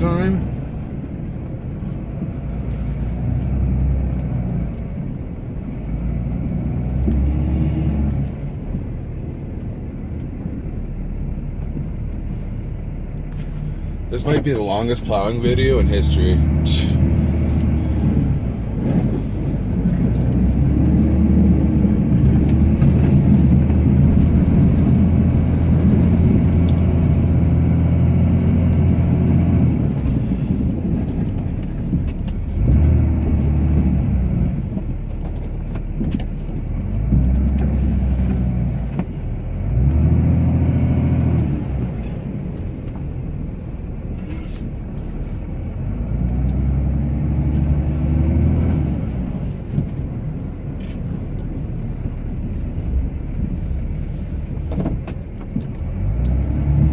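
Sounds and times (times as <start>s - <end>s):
diesel engine revving: 0.0s - 56.9s.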